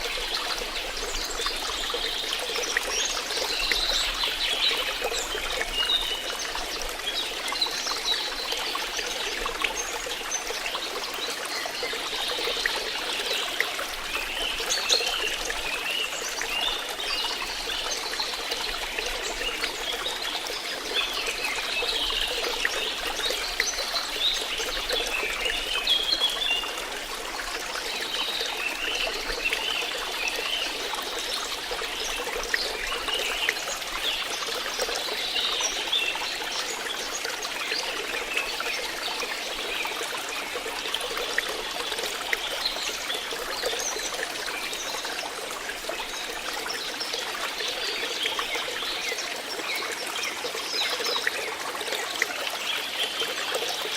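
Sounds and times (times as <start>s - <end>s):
stream babbling and gurgling: 0.0s - 53.9s.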